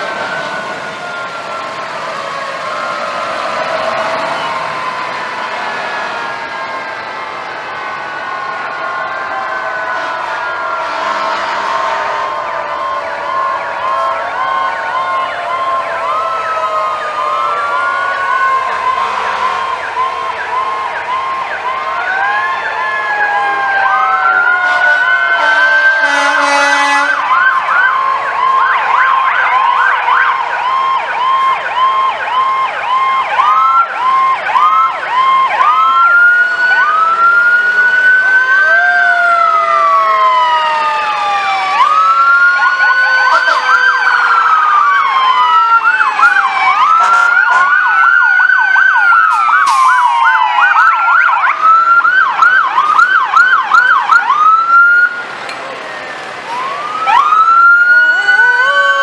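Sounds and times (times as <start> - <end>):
long falling siren tone: 0.0 - 59.0
siren wails: 0.0 - 59.0
siren yelp tones: 0.0 - 59.0.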